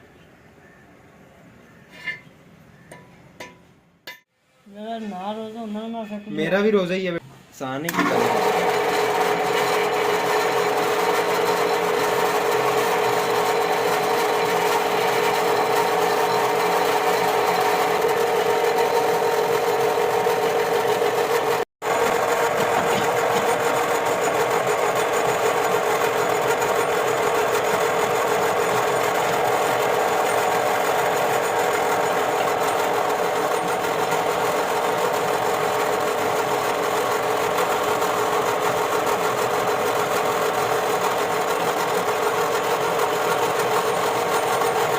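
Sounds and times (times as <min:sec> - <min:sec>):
workshop machine humming: 0:07.9 - 0:44.9.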